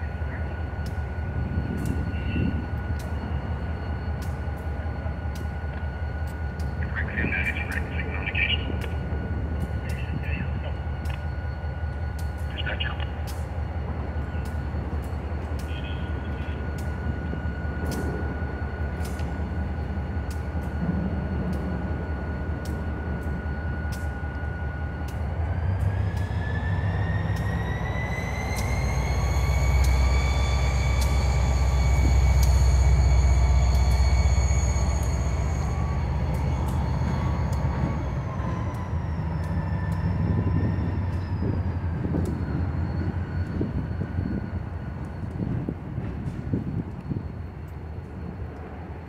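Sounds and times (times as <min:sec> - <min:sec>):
high whine: 0:00.0 - 0:49.0
locomotive engine rumble: 0:00.0 - 0:49.0.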